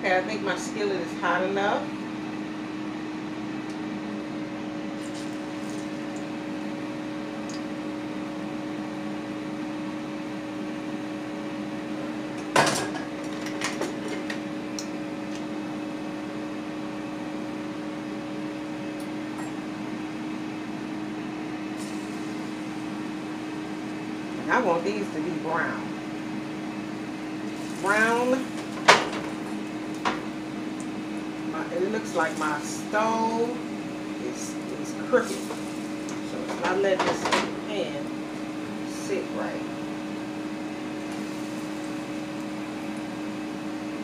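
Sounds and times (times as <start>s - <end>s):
kitchen appliance hum: 0.0s - 44.0s.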